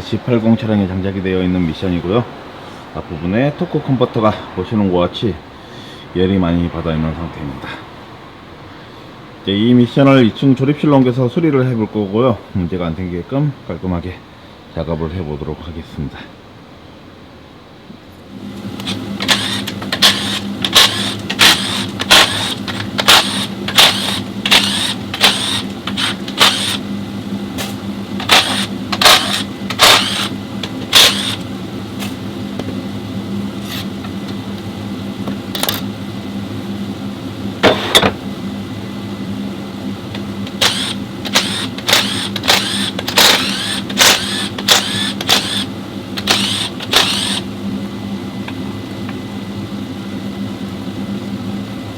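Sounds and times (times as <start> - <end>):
steady machine hum: 0.0 - 51.9.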